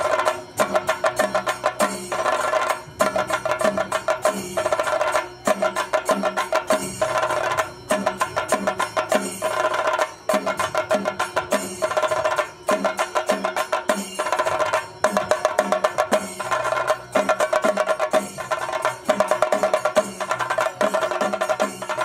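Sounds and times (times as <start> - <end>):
drums beaten in fast strokes: 0.0 - 22.0
ringing cymbal: 0.0 - 22.0.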